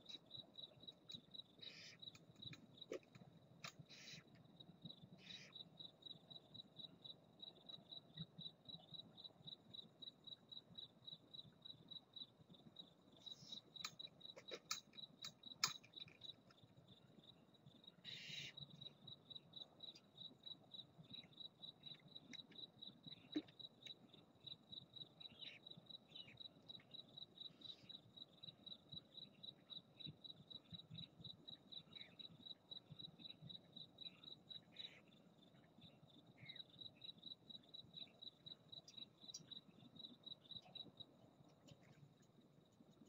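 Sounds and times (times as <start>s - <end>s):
cricket chirping: 0.0s - 43.0s.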